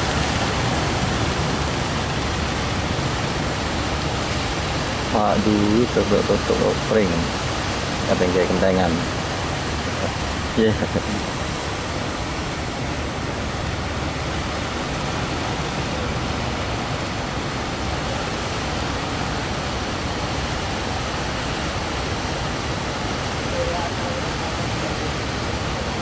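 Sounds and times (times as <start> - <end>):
heavy surf roaring: 0.0 - 26.0.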